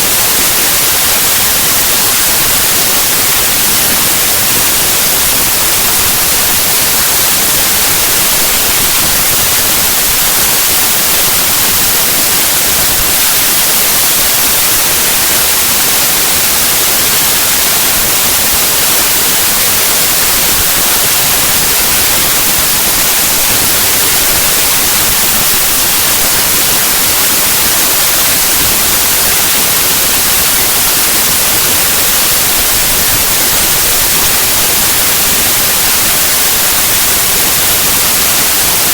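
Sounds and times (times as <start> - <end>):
harsh static hiss: 0.0 - 38.9.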